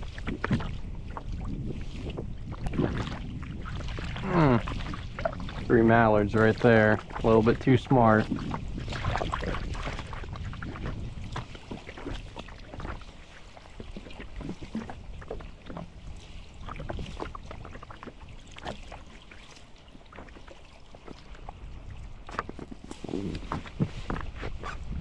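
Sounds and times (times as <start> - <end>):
paddle splashing in water: 0.0 - 25.0
water lapping at hull: 0.0 - 25.0.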